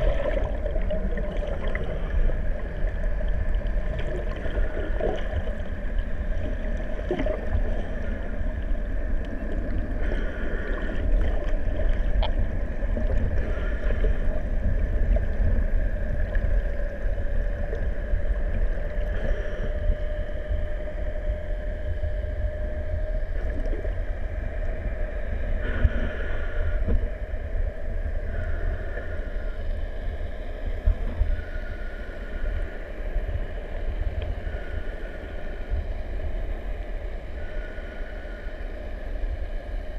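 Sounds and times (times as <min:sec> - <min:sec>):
higher hum: 0:00.0 - 0:39.9
underwater boat engine rumble: 0:00.0 - 0:39.9.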